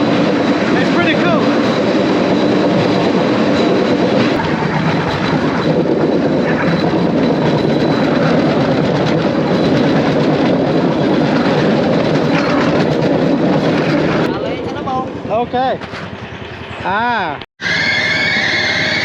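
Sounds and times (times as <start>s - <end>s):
wheels clattering over rails: 0.0s - 17.0s.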